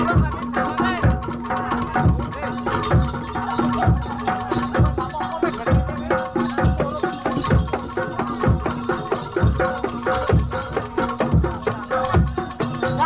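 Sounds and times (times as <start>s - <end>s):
deep drum beating: 0.0s - 13.0s
metallic melodic notes: 0.0s - 13.0s
quick hand-drum strokes: 0.0s - 13.0s.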